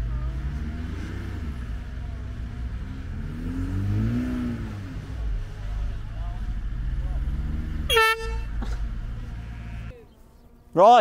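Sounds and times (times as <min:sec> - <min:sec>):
engines revving under load: 0:00.0 - 0:10.5.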